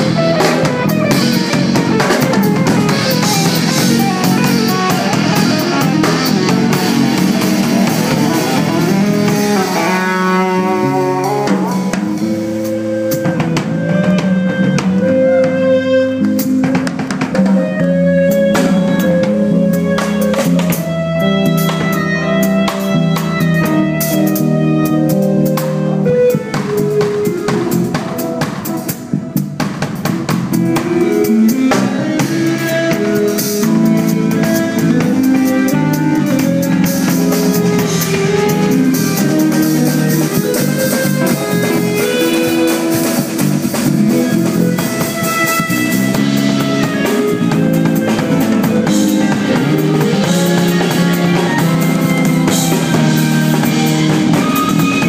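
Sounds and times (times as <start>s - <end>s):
drum kit with cymbals: 0.0s - 55.0s
electric bass: 0.0s - 55.0s
keyboards: 0.0s - 55.0s.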